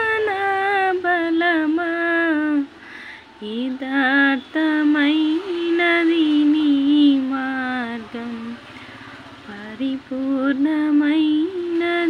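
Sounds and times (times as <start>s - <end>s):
woman singing: 0.0s - 2.8s, 3.4s - 8.6s, 9.5s - 12.0s.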